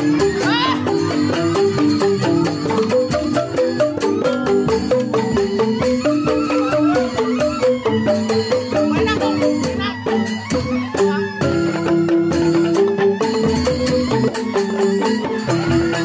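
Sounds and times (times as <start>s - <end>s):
bamboo xylophones playing melody: 0.0s - 16.0s
percussion: 0.0s - 16.0s.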